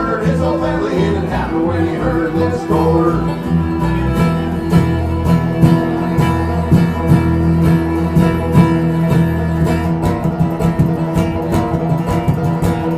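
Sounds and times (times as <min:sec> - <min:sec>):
banjo: 0:00.0 - 0:12.9
low bass: 0:00.0 - 0:12.9
picked acoustic guitar: 0:00.0 - 0:12.9.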